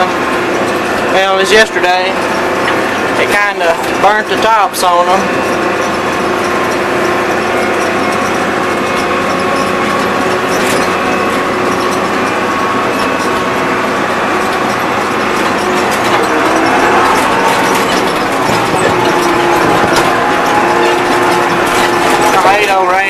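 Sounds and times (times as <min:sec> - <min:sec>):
steady whine: 0:00.0 - 0:23.0
tractor engine running: 0:00.0 - 0:23.0.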